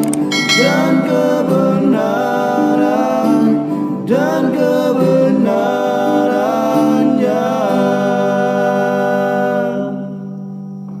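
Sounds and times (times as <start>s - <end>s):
voices singing gospel song: 0.4s - 10.4s.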